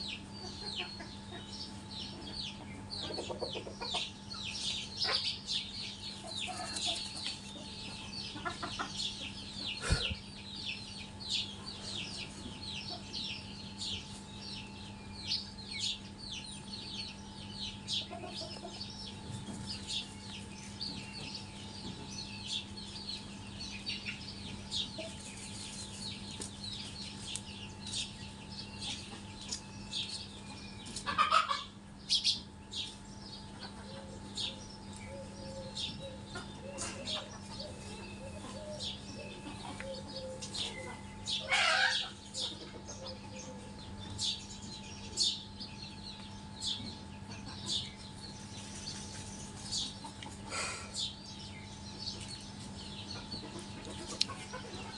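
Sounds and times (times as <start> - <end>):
chicks peeping: 0.0 - 54.9.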